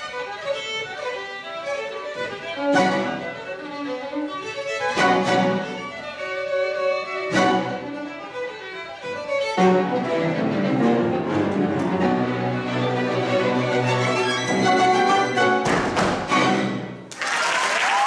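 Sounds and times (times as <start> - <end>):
string orchestra playing classical music: 0.0 - 17.1.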